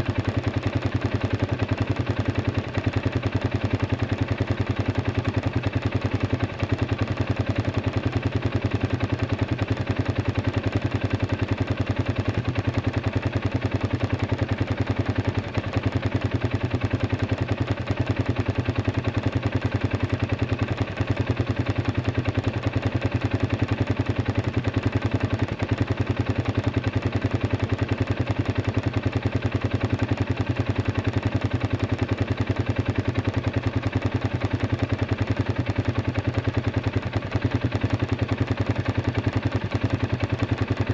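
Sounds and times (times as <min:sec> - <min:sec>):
atv engine idling: 0:00.0 - 0:40.9.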